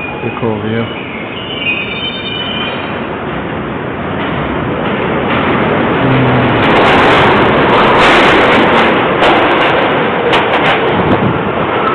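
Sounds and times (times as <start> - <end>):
subway train rumbling on track: 0.0 - 11.9.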